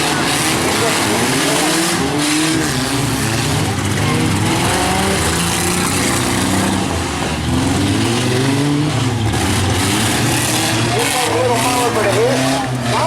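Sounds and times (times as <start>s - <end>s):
truck engines revving hard: 0.0s - 13.0s.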